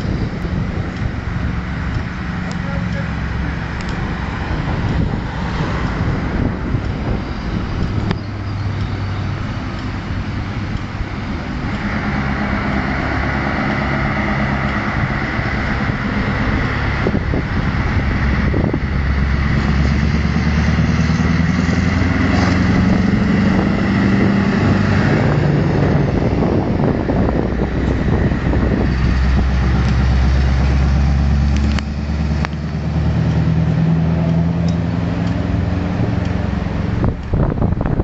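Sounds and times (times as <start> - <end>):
truck diesel engine running: 0.0 - 38.0.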